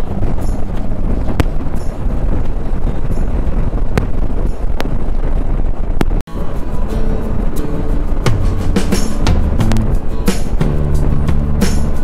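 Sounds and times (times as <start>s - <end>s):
engine and road rumble: 0.0s - 12.0s
wind buffeting microphone: 0.0s - 12.0s.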